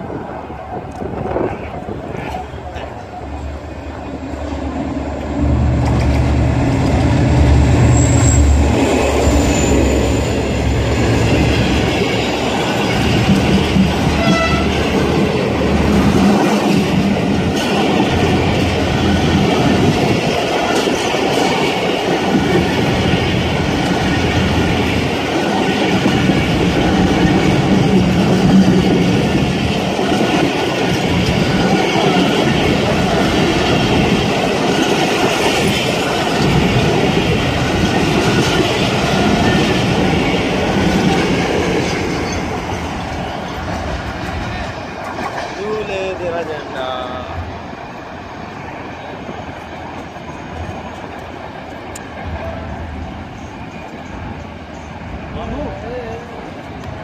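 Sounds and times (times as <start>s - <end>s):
diesel locomotive passing: 0.0s - 57.0s
train coaches running over rails: 0.0s - 57.0s.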